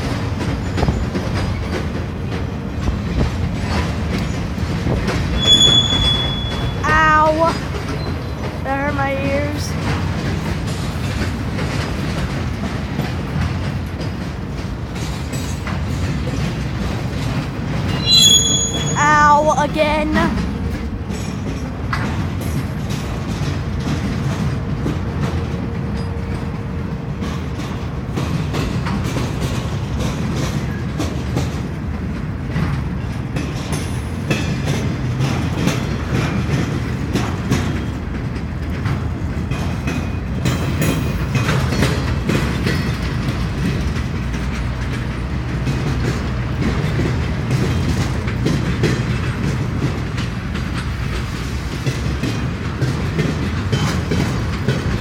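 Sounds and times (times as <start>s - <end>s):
wheels clanking over rail joints: 0.0s - 19.0s, 20.2s - 55.0s
train wheels rumbling on rails: 0.0s - 55.0s.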